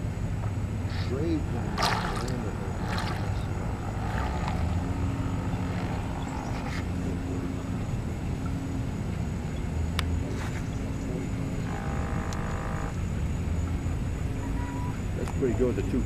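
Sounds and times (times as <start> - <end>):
faint motor hum: 0.0 - 16.0
model boat low rumble: 0.0 - 16.0.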